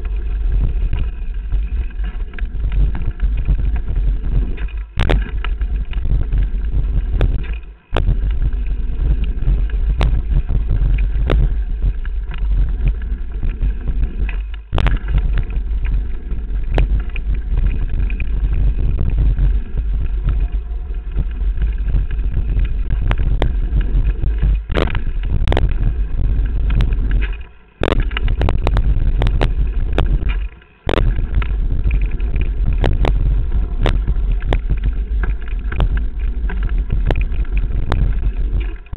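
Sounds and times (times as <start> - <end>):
mountain bike rattling: 0.0 - 38.9
wind buffeting microphone: 0.0 - 38.9.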